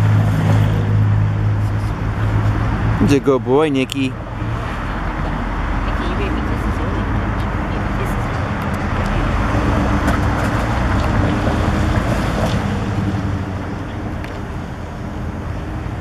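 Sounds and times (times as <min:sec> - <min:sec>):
motor vehicle engine rumble: 0:00.0 - 0:16.0.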